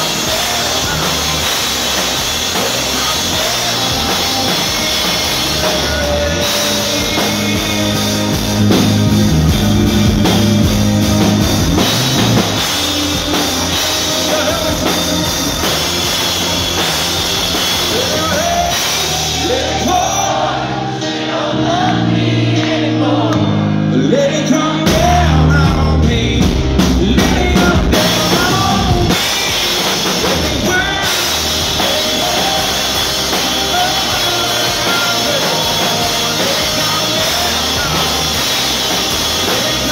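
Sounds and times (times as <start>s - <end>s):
man singing lead vocal: 0.0s - 10.7s, 11.8s - 39.9s
live rock band playing: 0.0s - 39.9s.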